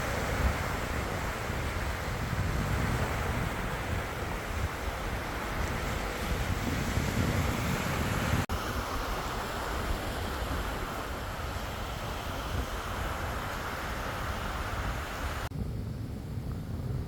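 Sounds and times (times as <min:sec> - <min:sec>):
sea surf: 0:00.0 - 0:15.5
wind rushing over microphone: 0:00.0 - 0:17.0.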